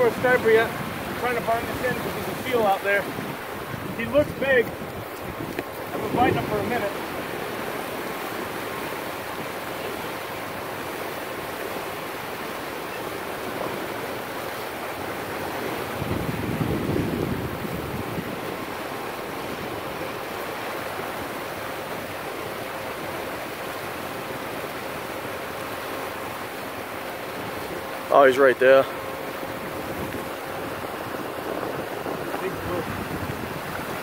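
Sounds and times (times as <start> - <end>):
wind buffeting microphone: 0.0 - 10.7, 13.3 - 23.2, 26.2 - 34.0
surf washing over rocks: 0.0 - 34.0.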